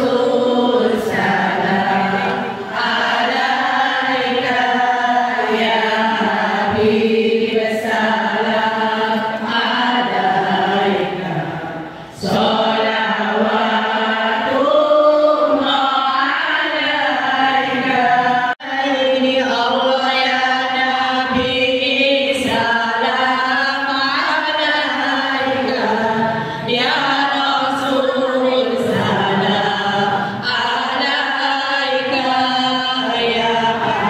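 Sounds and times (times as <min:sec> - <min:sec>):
women singing in unison: 0:00.0 - 0:34.0.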